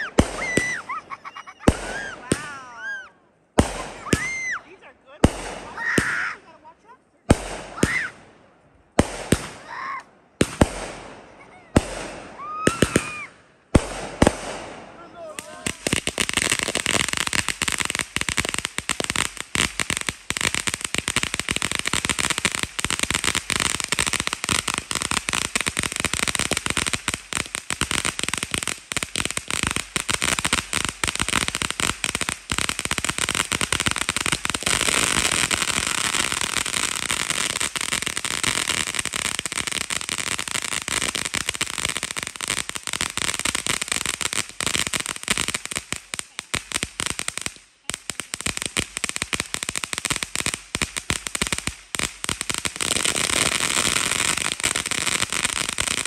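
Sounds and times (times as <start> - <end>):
firework fountain hissing and crackling: 0.0 - 8.2, 8.9 - 56.0.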